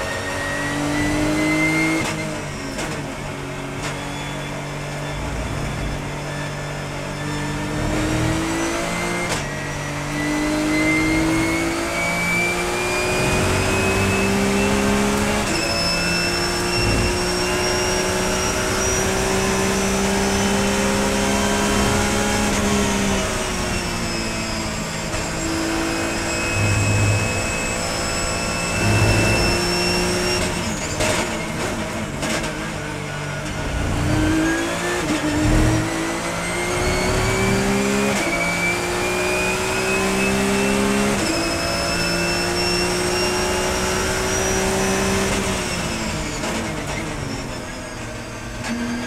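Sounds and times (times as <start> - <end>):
race car engine revving: 4.8 - 47.2.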